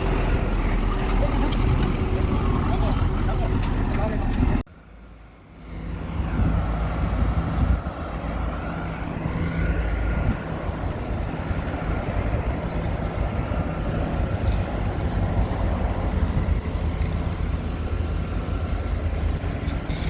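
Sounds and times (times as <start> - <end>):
wheel loader diesel engine droning: 0.0 - 20.0.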